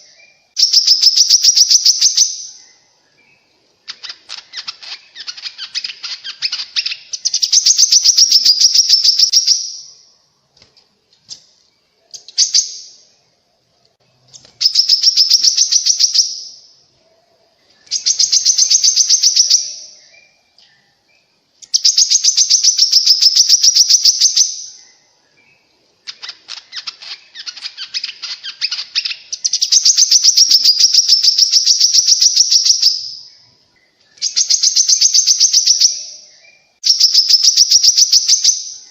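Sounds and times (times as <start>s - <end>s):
bird trilling song: 0.0s - 10.2s, 11.3s - 13.4s, 14.1s - 38.9s.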